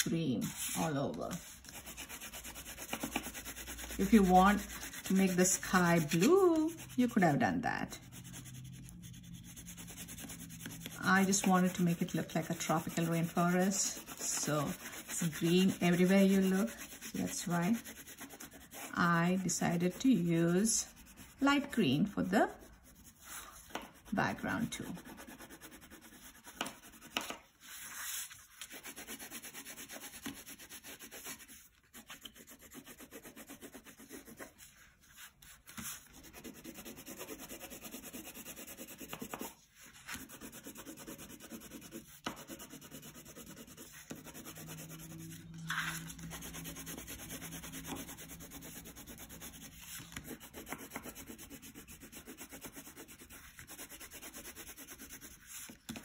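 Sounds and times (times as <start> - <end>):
crayon rubbing on paper: 0.0 - 56.0.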